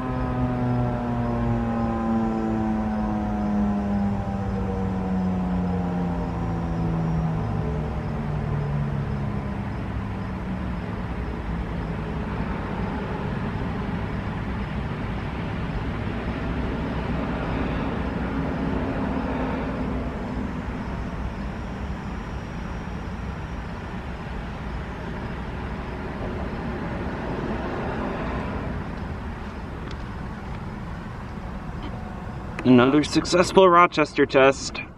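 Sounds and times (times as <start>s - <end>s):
siren winding down: 0.0s - 34.8s
road traffic noise: 0.0s - 34.9s
vehicle passing: 0.0s - 34.9s.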